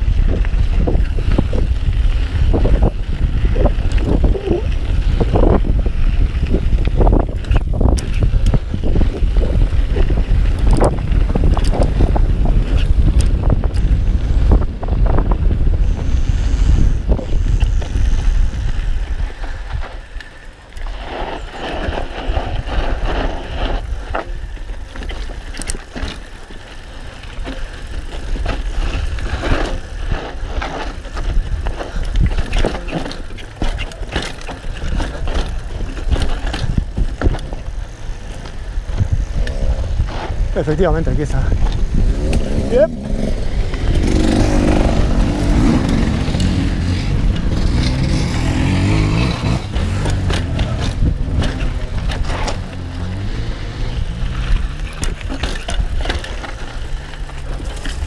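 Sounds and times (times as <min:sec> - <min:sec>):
wind buffeting microphone: 0:00.0 - 0:20.2, 0:27.0 - 0:58.0
bike clicks and rattles: 0:00.0 - 0:58.0
tyres on loose ground: 0:00.0 - 0:58.0.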